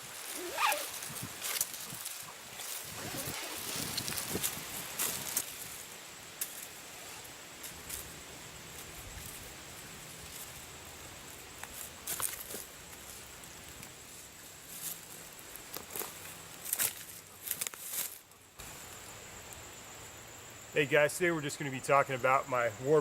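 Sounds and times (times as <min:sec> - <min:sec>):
faint rustles and clicks: 0:00.0 - 0:19.0.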